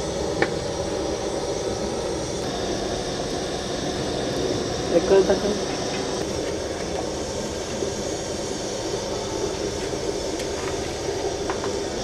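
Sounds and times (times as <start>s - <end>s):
gas burner hissing: 0.0s - 12.0s
pot boiling hard: 0.0s - 12.0s.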